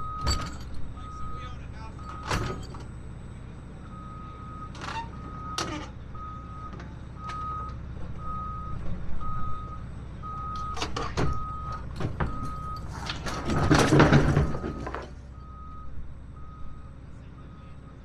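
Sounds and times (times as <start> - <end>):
backup alarm beeping: 0.0 - 3.0, 3.8 - 13.0, 14.6 - 17.8
diesel engine running: 0.0 - 18.0.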